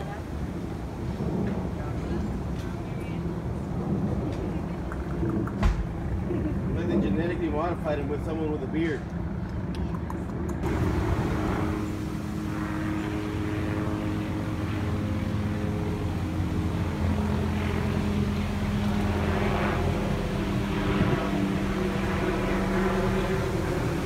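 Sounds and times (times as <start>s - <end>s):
propeller airplane engine drone: 0.0s - 24.0s.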